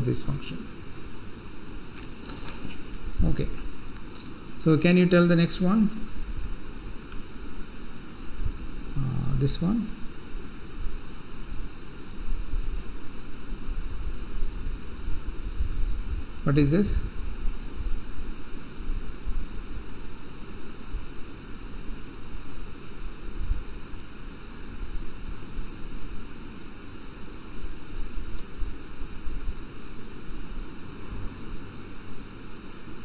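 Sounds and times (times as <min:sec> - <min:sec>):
background hiss: 0:00.0 - 0:33.0
faint hum: 0:00.0 - 0:33.0.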